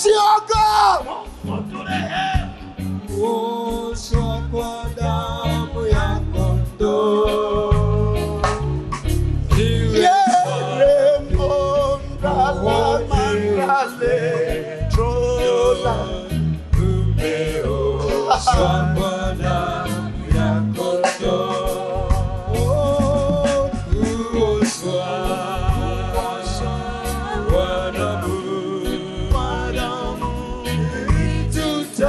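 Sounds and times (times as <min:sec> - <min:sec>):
instrumental backing with bass: 0:00.0 - 0:32.0
voices singing gospel song: 0:00.0 - 0:32.0.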